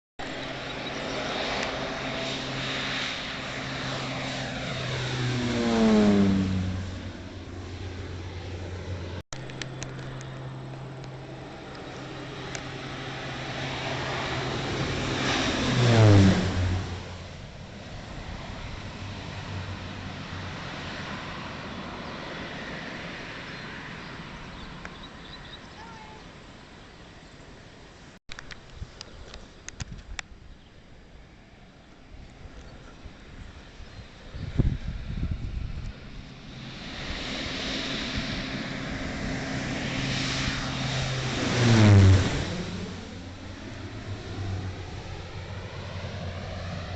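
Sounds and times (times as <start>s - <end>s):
turboprop plane passing low: 0.2s - 46.9s.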